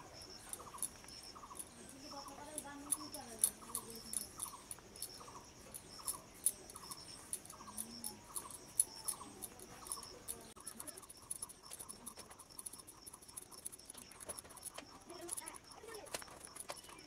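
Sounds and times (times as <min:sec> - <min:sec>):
faint chirping call: 0:00.0 - 0:17.0.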